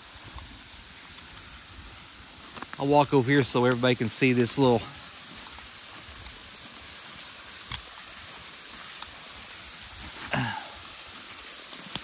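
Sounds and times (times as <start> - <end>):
creek water over rocks: 0.0 - 12.0.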